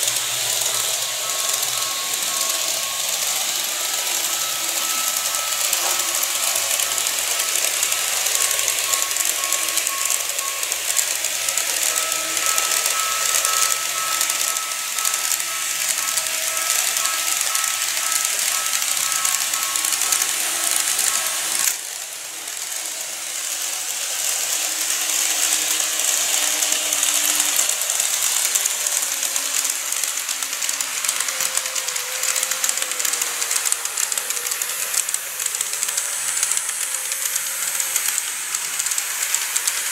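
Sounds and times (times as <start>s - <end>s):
model train motor whine: 0.0s - 39.9s
wheels hissing on rails: 0.0s - 39.9s.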